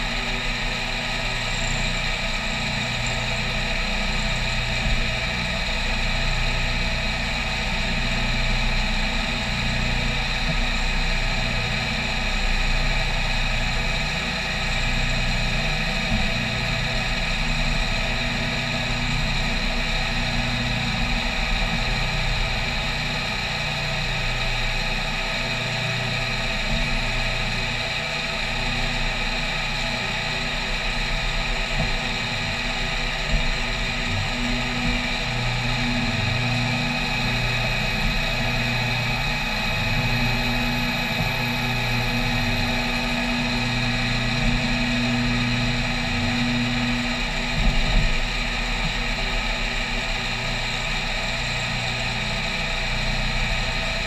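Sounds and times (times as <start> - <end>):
milling machine cutting whine: 0.0 - 54.0.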